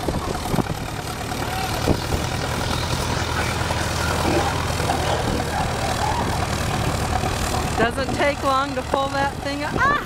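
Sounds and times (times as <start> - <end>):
tractor engine under load: 0.0 - 10.0.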